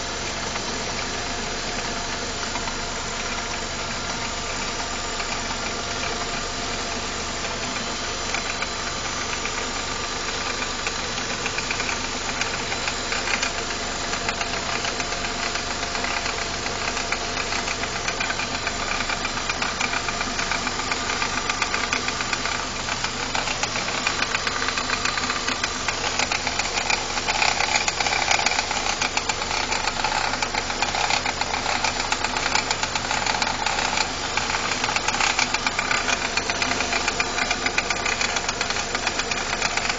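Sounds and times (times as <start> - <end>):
car engine running: 0.0 - 39.9
fast continuous rattle: 1.6 - 39.9.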